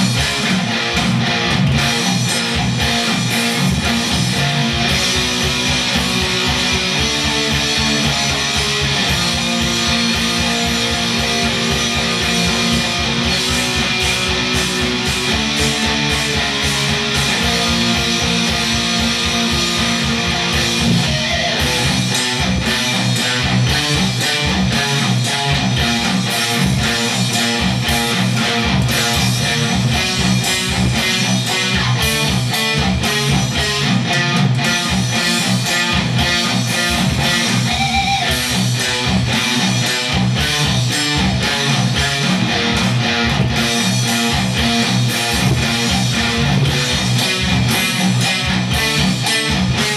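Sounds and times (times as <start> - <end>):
distorted electric guitar riff: 0.0 - 49.9.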